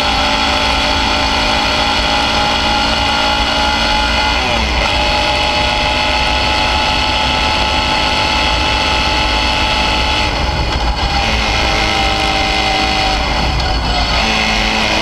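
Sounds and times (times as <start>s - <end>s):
motorcycle engine running: 0.0s - 15.0s
wind rumble on microphone: 0.0s - 15.0s.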